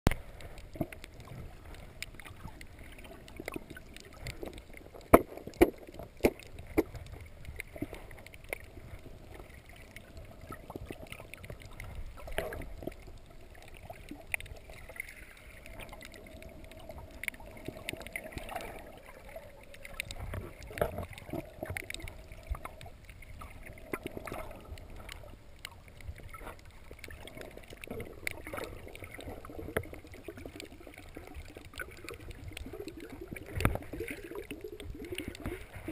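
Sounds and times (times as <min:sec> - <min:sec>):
muffled underwater water: 0:00.1 - 0:35.9.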